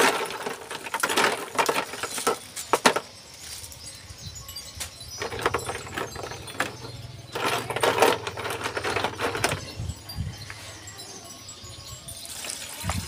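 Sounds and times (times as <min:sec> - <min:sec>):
ice cubes clinking: 0:00.0 - 0:13.0.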